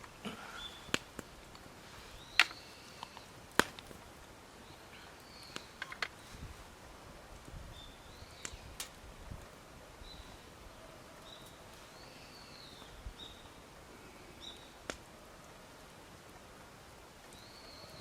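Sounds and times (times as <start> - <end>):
campfire wood popping and cracking: 0.0 - 10.6, 11.2 - 18.0
birds chirping faintly: 0.0 - 18.0.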